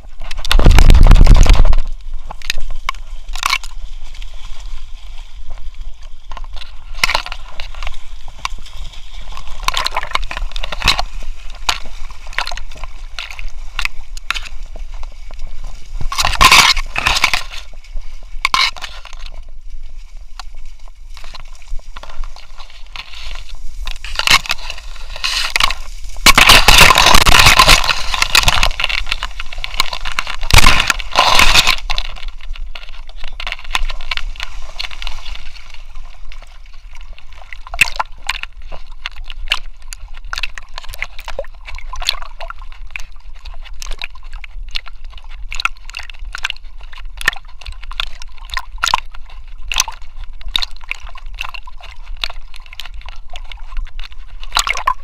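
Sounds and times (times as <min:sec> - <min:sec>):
reed stems brushing past: 0:00.0 - 0:44.5
water sloshing and splashing: 0:00.0 - 0:55.0.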